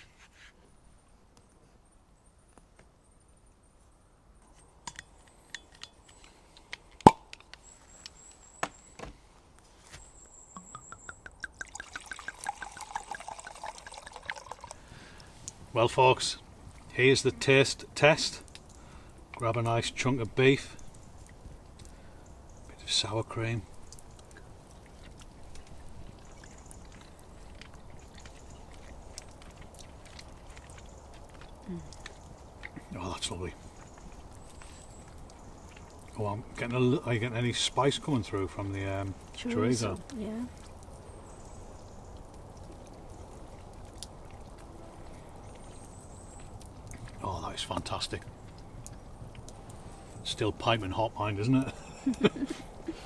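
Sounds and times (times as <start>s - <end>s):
campfire crackling: 4.4s - 53.0s.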